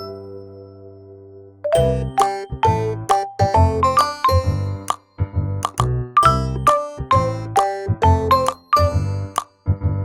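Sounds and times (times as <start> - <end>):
children's tune with bass line: 1.7 - 10.0.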